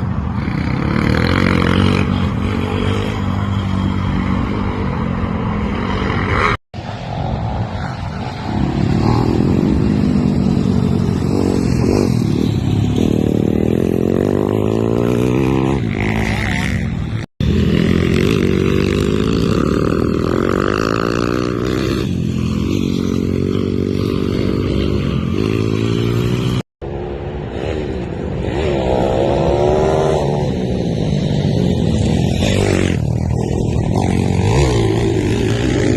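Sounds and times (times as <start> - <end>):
motorbike engine revving: 0.0 - 26.6, 27.4 - 35.9.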